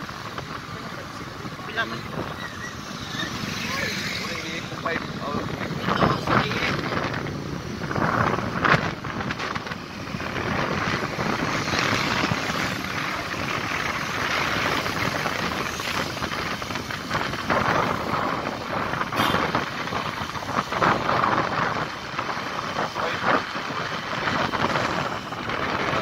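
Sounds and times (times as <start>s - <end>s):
road and traffic noise: 0.0s - 26.0s
wind rushing over microphone: 0.0s - 26.0s.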